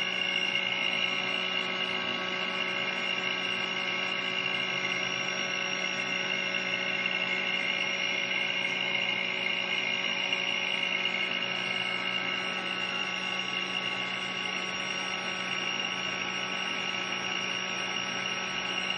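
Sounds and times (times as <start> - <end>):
spindle motor hum and whine: 0.0 - 18.9.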